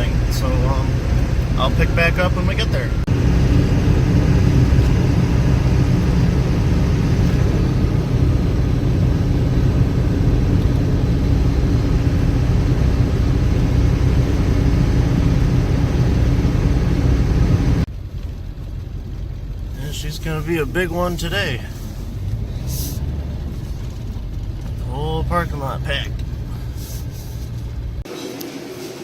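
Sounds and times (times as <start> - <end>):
engine and road drone in cab: 0.0 - 29.0.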